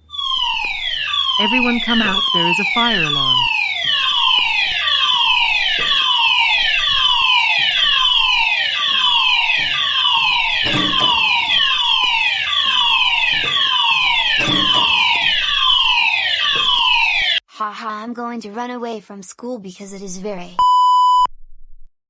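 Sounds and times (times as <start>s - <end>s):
fire alarm downward sweeping tone: 0.0s - 17.4s, 20.6s - 21.3s.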